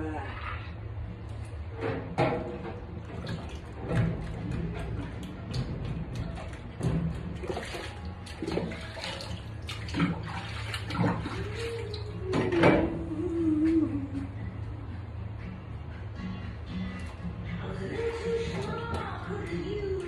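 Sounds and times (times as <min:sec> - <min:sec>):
water sloshing in a metal sink: 0:00.0 - 0:14.1, 0:16.9 - 0:20.0.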